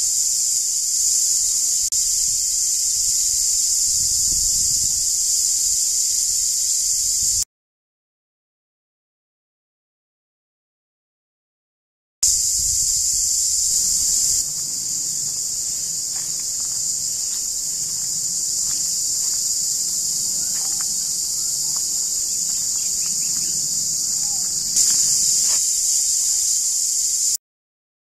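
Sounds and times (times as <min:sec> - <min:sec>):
cicada chorus: 0:00.0 - 0:07.4, 0:12.2 - 0:27.4.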